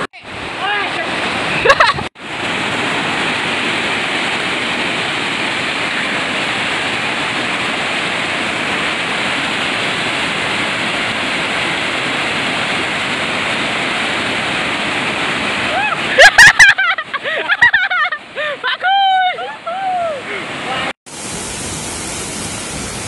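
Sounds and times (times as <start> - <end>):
waterfall rushing over rocks: 0.0 - 16.3, 19.5 - 23.0.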